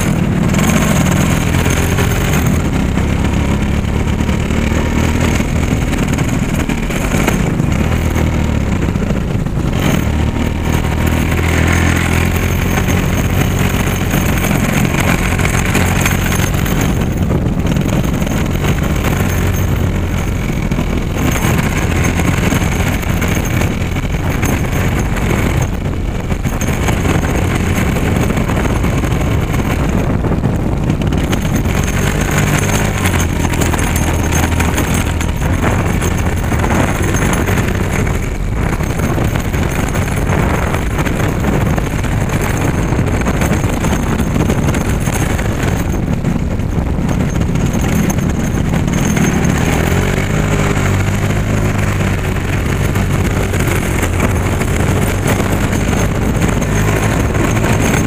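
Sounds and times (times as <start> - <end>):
motorcycle engine running: 0.0 - 58.0
tyres on wet road: 0.0 - 58.0
wind noise on microphone: 0.0 - 58.0.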